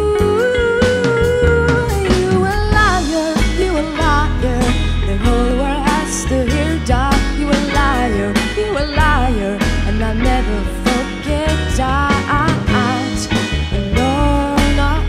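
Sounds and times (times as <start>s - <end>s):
double bass: 0.0s - 15.0s
drums: 0.0s - 15.0s
sliding bending lead melody: 0.0s - 15.0s.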